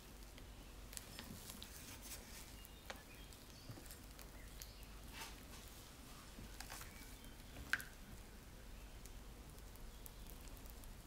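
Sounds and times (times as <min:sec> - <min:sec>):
spatula squishing batter: 0:00.0 - 0:11.0.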